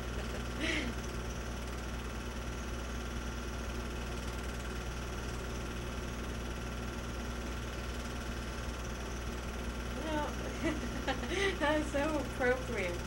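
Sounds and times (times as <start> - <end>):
film projector humming: 0.0 - 13.0.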